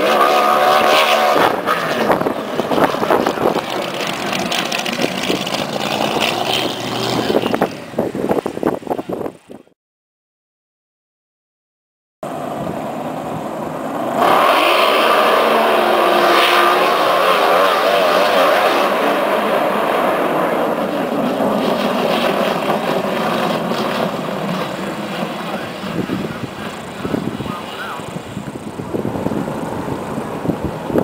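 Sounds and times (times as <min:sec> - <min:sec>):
racing boat engine at high speed: 0:00.0 - 0:09.5, 0:12.2 - 0:31.0.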